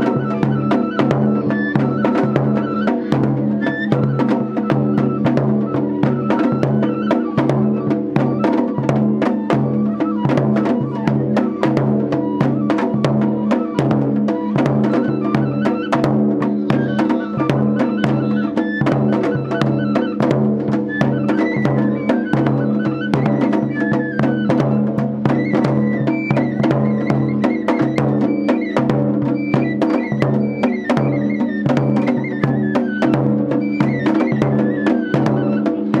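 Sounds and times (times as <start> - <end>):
drums: 0.0 - 36.0.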